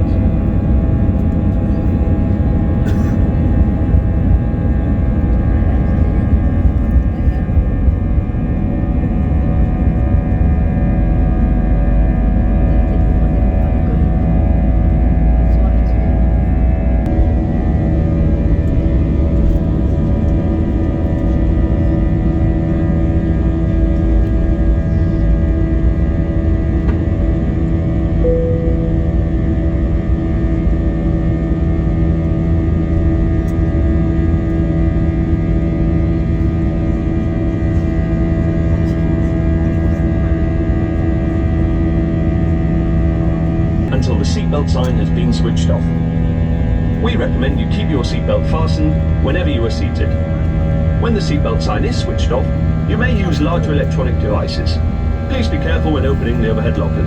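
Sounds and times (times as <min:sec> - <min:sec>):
jet engines rumbling and whining: 0:00.0 - 0:57.0
steady tonal hum: 0:00.0 - 0:57.0.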